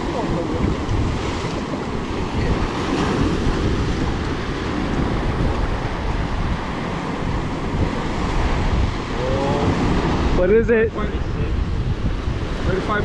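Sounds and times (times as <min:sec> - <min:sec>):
surf breaking on rocks: 0:00.0 - 0:10.9
wind rumbling on microphone: 0:00.0 - 0:13.0.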